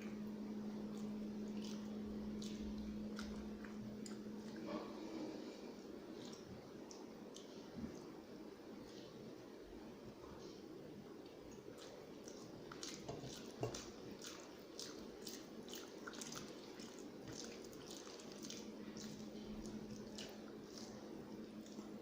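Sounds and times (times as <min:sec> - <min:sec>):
chewing with wet mouth smacks: 0:00.0 - 0:05.0, 0:06.1 - 0:08.1, 0:11.2 - 0:22.0.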